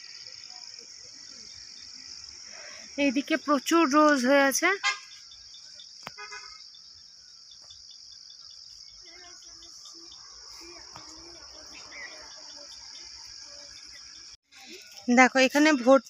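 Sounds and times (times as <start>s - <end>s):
insects shrilling: 0.0s - 16.0s.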